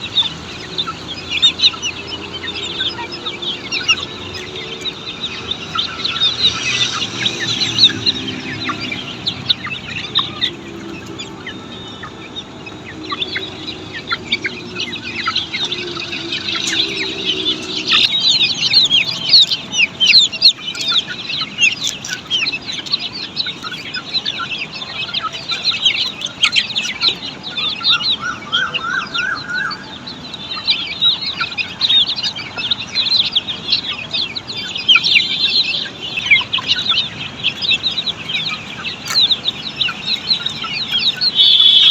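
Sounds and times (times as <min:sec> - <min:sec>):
chicken calls: 0:00.0 - 0:41.9
chicks peeping: 0:00.0 - 0:41.9.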